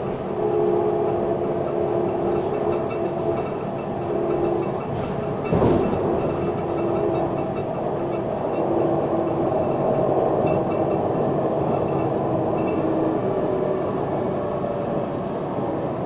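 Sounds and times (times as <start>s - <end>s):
tram traction hum: 0.0s - 16.0s
wheel and rail running noise: 0.0s - 16.0s.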